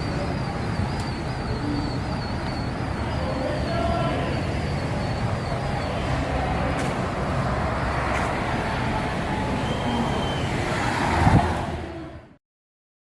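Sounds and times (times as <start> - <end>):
car engine and tyre rumble: 0.0 - 12.4.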